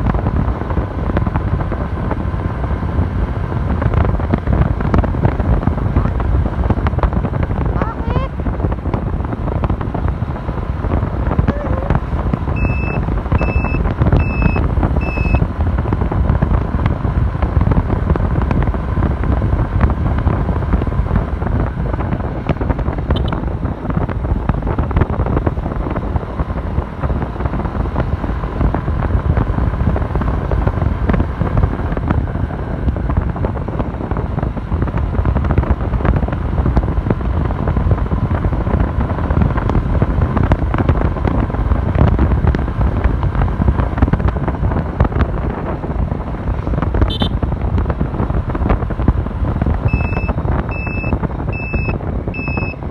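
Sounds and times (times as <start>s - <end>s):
motorbike engine: 0.0s - 52.9s
road noise: 0.0s - 52.9s
wind rumble on microphone: 0.0s - 52.9s.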